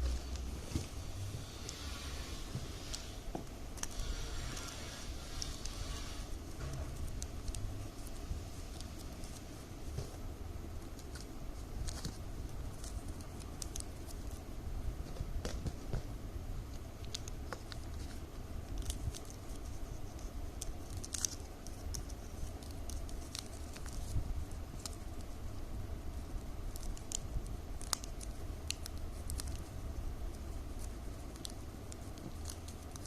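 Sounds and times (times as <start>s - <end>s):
plastic strips rustling and crinkling: 0.0s - 25.6s, 26.2s - 33.0s.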